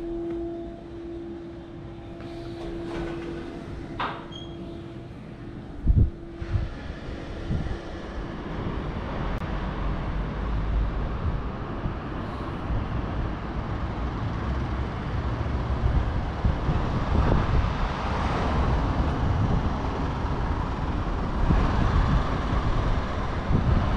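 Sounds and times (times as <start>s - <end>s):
low street rumble: 0.0s - 23.9s.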